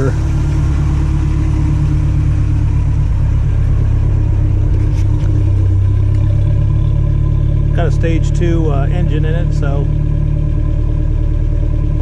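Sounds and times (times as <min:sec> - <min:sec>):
engine exhaust idling: 0:00.0 - 0:12.0.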